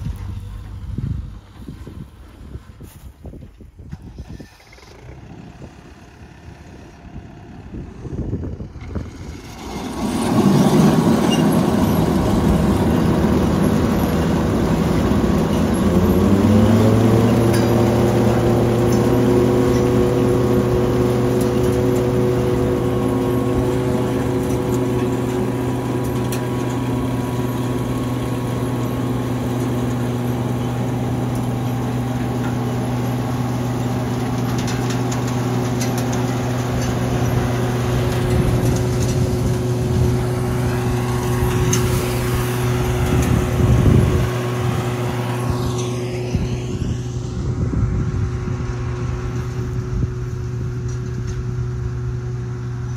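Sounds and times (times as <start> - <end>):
engine starting and running: 0.0 - 52.9.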